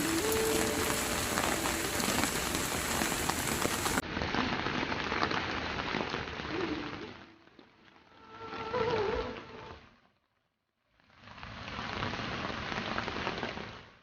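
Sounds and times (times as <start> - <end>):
rain falling: 0.0 - 10.0, 11.0 - 14.0.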